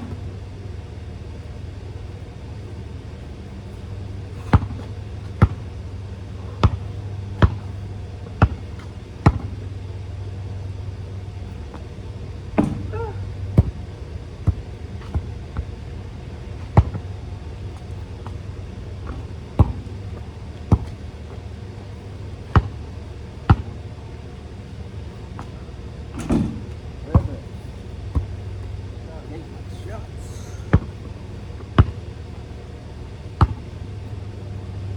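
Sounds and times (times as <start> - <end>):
basketball bouncing on hard ground: 0.0 - 34.9
steady low hum: 0.0 - 34.9.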